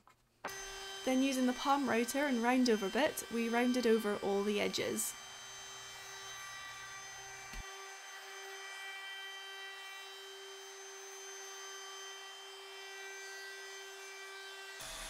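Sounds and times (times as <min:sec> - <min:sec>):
router whining: 0:00.5 - 0:15.0.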